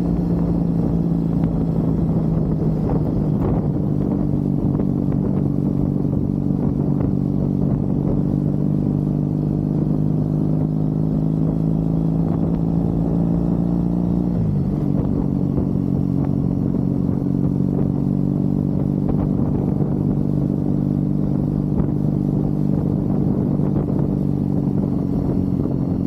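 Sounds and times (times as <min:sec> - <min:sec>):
motorcycle engine while riding: 0:00.0 - 0:26.0.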